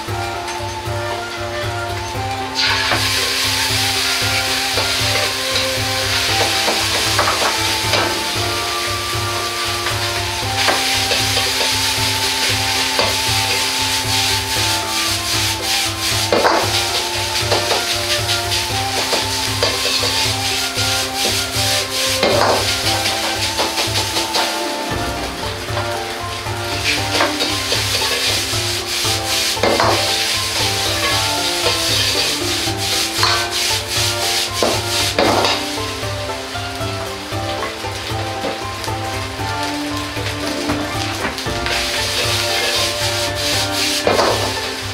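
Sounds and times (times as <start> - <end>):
background music: 0.0 - 44.9
frying sizzle: 0.0 - 44.9
ladle clanking against wok: 0.0 - 44.9
ladle scraping wok: 0.0 - 44.9.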